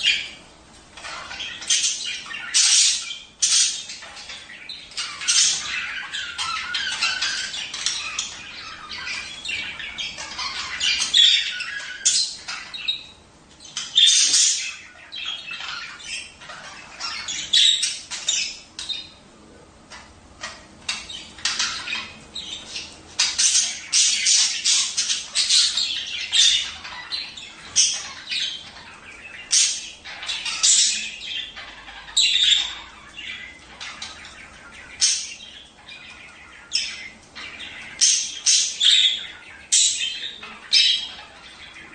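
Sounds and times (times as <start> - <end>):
budgerigars chattering: 0.0 - 19.3, 19.9 - 41.9.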